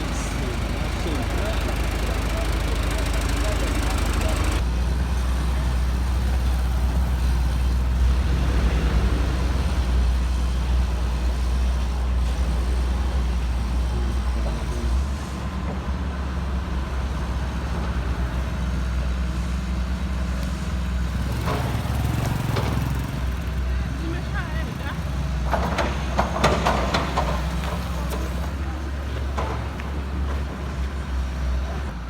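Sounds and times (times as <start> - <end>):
heavy vehicle engine rumbling: 0.0 - 32.0.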